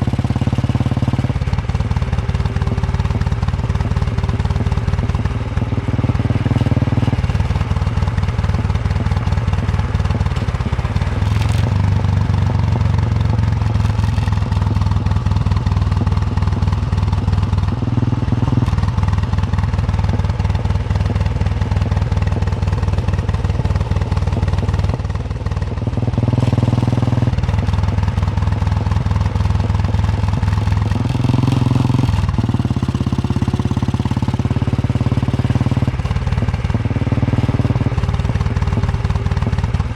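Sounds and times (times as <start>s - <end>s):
motorcycle engine thumping: 0.0s - 39.9s.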